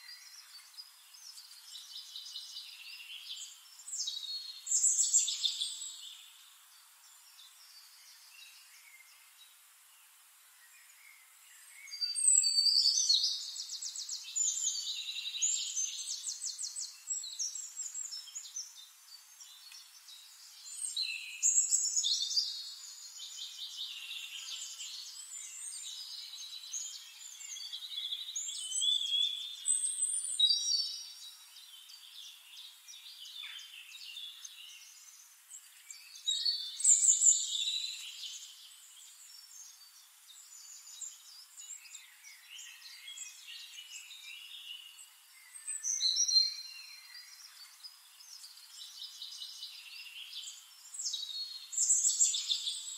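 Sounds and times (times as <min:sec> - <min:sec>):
songbirds trilling and chirping: 0:00.0 - 0:52.9.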